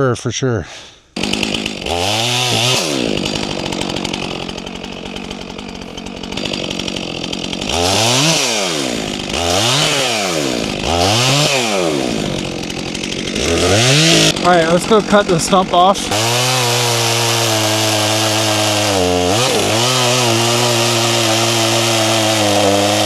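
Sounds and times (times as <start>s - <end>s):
chainsaw idling and revving: 1.2s - 23.0s.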